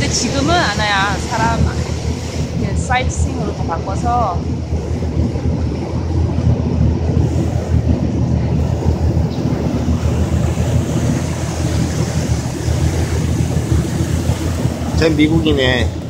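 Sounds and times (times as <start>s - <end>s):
boat engine rumble: 0.0s - 16.0s
wind buffeting microphone: 0.0s - 16.0s.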